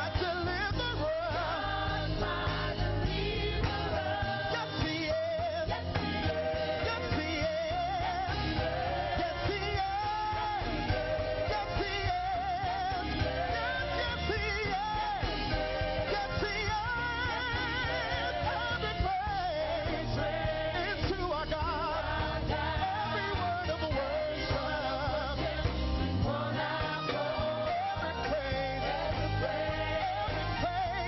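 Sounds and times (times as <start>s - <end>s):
band accompaniment: 0.0s - 31.0s
group singing gospel song: 0.0s - 31.0s.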